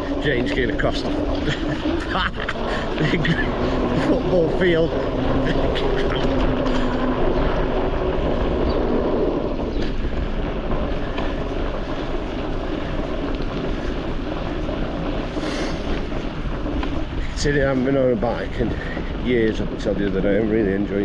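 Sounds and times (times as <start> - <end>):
bicycle riding noise: 0.0 - 21.0
wind rumble on microphone: 0.0 - 21.0.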